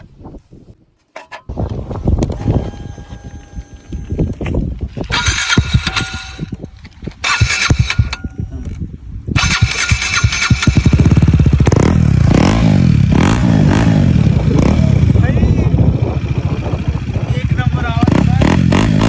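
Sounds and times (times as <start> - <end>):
motorcycle engine popping and revving: 0.0 - 19.0.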